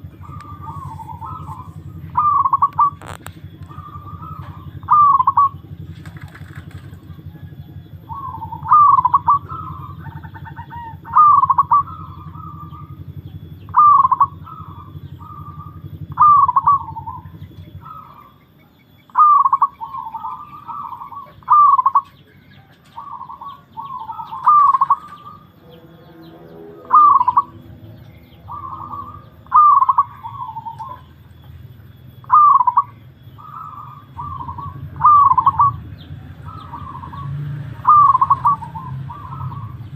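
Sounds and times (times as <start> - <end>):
dove cooing: 0.0 - 39.9
low steady hum: 0.0 - 39.9.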